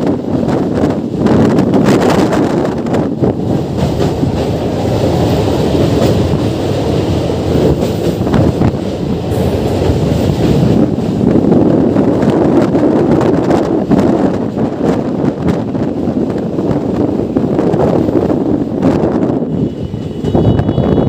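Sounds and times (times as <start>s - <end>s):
train rail rumble: 0.0s - 21.0s
wind on microphone: 0.0s - 21.0s.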